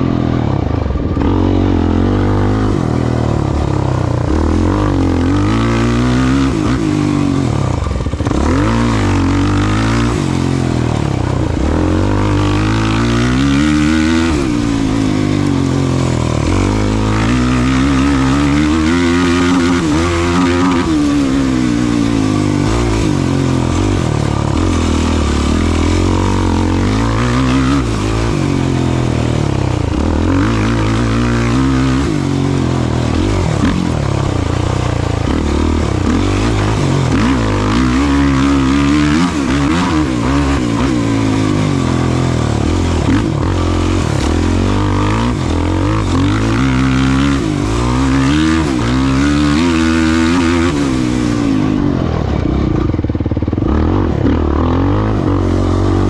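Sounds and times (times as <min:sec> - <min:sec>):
race vehicle engine revving: 0:00.0 - 0:56.0.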